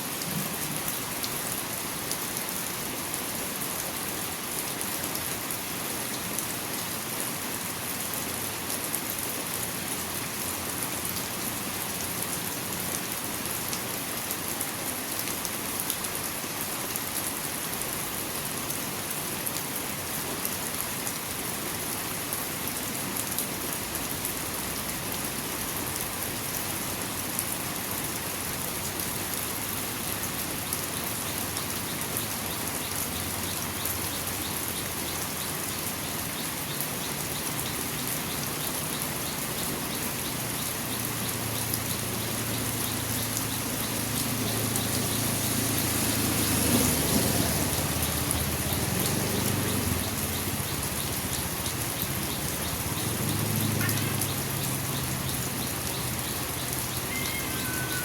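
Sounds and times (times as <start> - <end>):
raindrops ticking on surfaces: 0.0 - 58.0
steady rain falling: 0.0 - 58.0.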